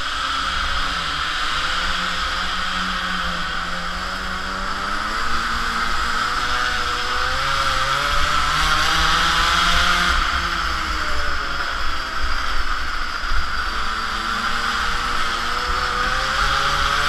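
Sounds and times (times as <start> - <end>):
small two-stroke engine buzzing: 0.0 - 17.0.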